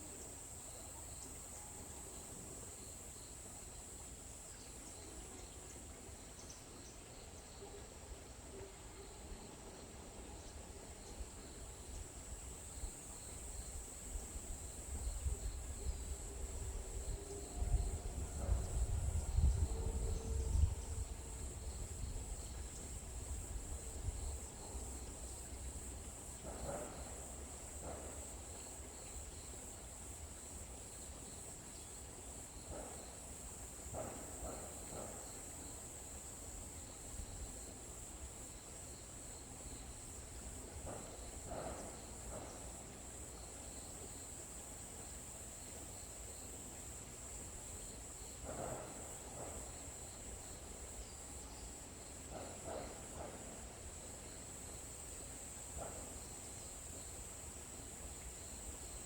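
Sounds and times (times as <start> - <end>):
insects trilling: 8.5 - 59.0.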